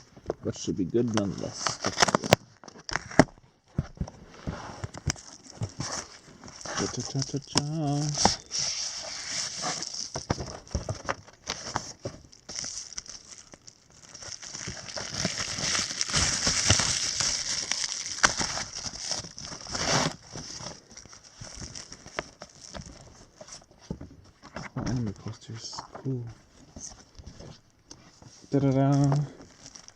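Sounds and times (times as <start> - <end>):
wrapping crinkling and rustling: 0.0 - 29.9.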